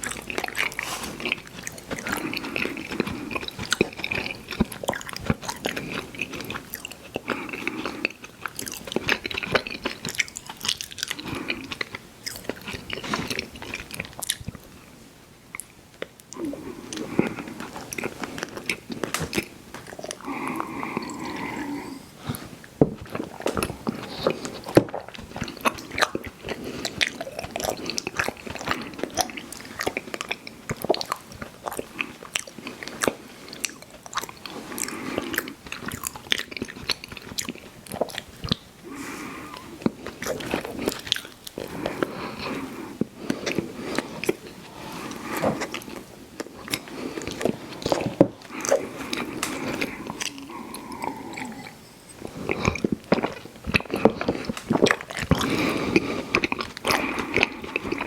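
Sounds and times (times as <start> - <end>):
person chewing candy: 0.0 - 58.0.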